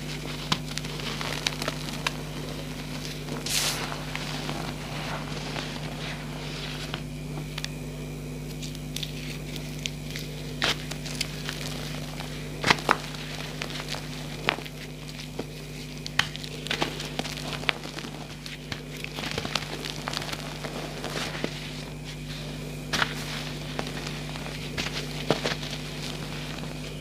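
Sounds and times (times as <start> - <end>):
chalk blocks crumbling by hand: 0.0 - 4.8, 8.5 - 27.0
chalk snapping: 0.0 - 7.8, 8.4 - 27.0.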